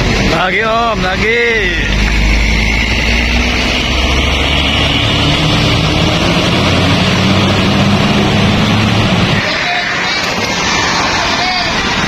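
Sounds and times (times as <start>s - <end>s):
diesel bus engine drone: 0.0s - 12.0s
road noise: 0.0s - 12.0s.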